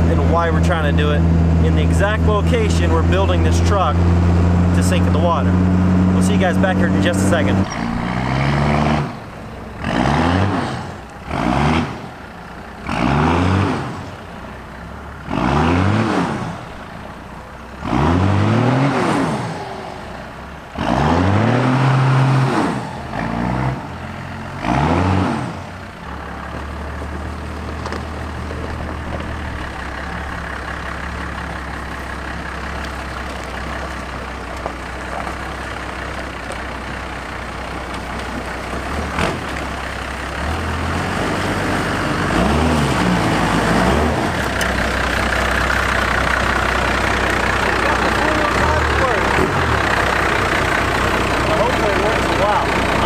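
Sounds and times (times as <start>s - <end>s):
diesel engine revving: 0.0s - 53.0s.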